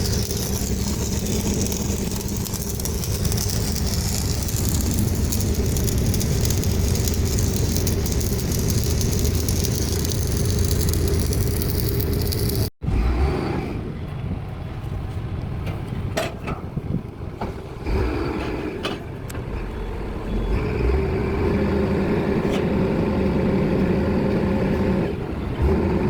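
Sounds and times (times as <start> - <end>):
diesel machinery running: 0.0 - 16.0, 17.5 - 26.0.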